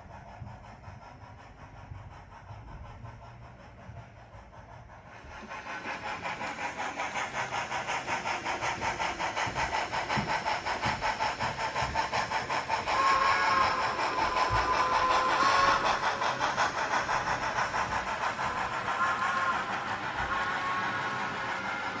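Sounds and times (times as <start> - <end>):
model train running: 0.0 - 22.0.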